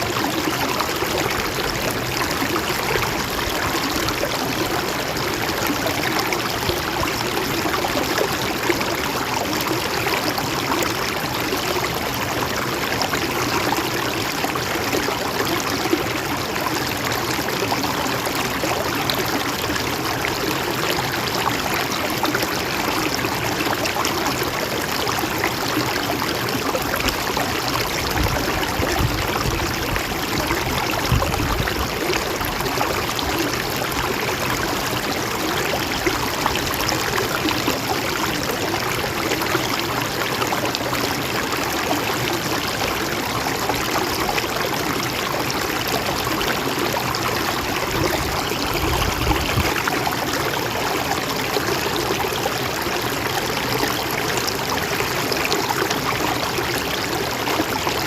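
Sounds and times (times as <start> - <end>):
stream rushing and trickling: 0.0 - 58.0.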